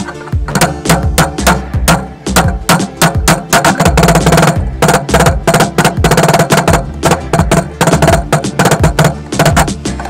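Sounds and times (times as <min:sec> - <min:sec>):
music with percussive beat and bass: 0:00.0 - 0:10.0.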